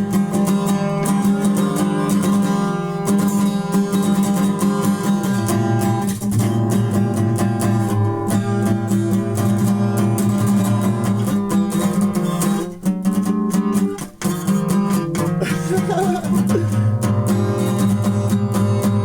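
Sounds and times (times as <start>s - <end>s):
guitar strummed chords: 0.0s - 19.0s.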